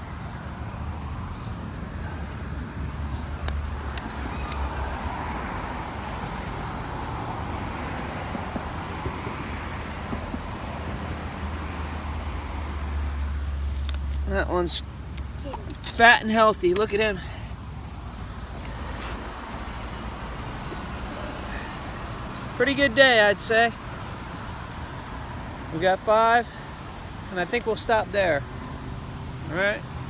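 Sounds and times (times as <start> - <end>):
distant traffic rumble: 0.0 - 30.0.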